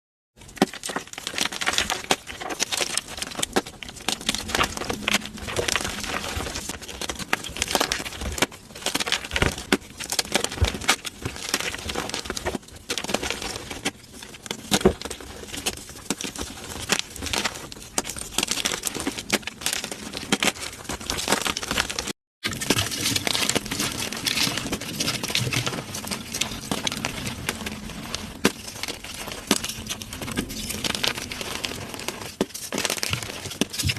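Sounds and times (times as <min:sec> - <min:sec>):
chalk crunching and crackling: 0:00.4 - 0:33.9
powdery crumbling: 0:00.4 - 0:33.9.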